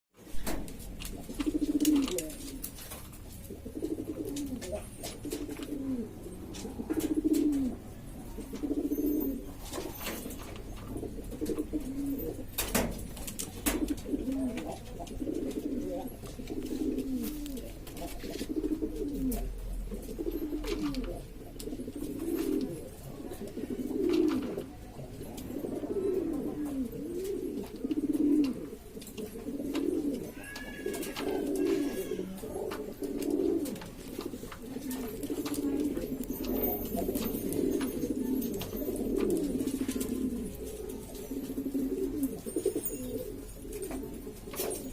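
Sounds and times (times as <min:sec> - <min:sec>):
pigeons cooing: 0:00.4 - 0:44.9.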